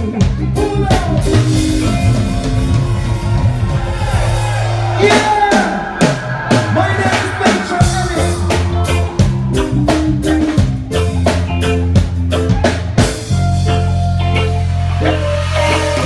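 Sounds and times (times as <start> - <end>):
bass guitar: 0.0 - 16.0
drum kit: 0.0 - 16.0
electric guitar: 0.0 - 16.0
keyboards: 0.0 - 16.0.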